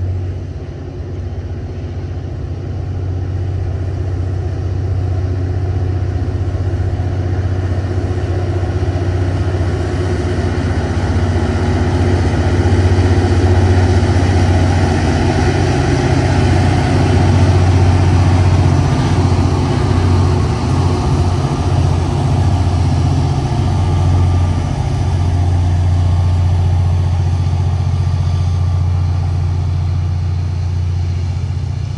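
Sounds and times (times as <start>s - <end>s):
diesel locomotives droning: 0.0s - 31.9s.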